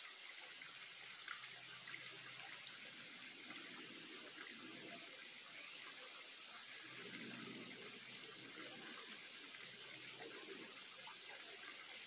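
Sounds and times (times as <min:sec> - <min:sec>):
mountain stream flowing: 0:00.0 - 0:12.0.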